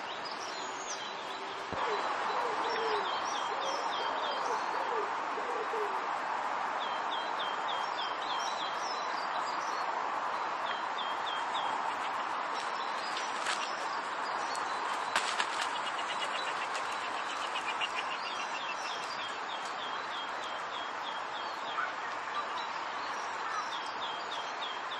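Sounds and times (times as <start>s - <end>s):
small songbirds calling: 0.0s - 6.1s, 6.7s - 24.9s.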